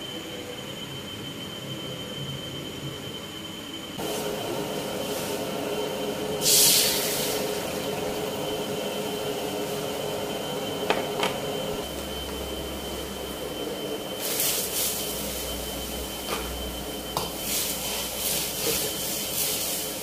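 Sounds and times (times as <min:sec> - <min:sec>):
gas wok burner roaring: 0:04.0 - 0:20.0.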